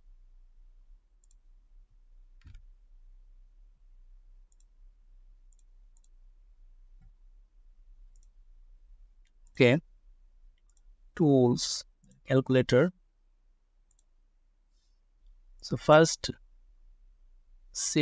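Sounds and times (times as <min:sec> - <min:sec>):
low mains hum: 0:00.0 - 0:18.0.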